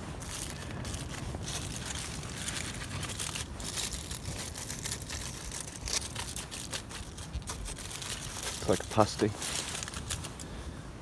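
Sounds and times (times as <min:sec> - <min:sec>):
aluminium foil crinkling: 0:00.0 - 0:10.5.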